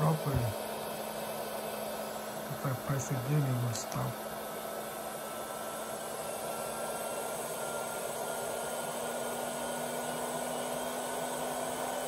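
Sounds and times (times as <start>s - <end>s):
hot air blower rushing air: 0.0s - 12.0s.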